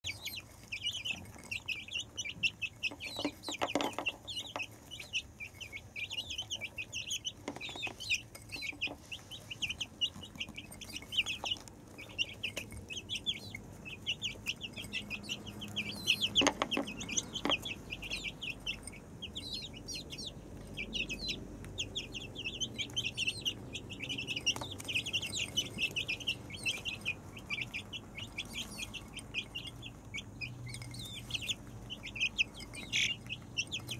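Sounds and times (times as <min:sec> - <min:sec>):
beaks knocking feed bowl: 0:00.0 - 0:33.9
chicks peeping: 0:00.0 - 0:33.9.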